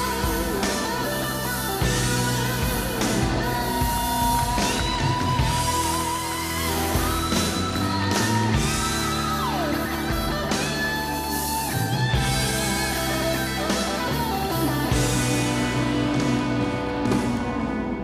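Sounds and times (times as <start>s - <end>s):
wavering lead melody: 0.0s - 18.0s.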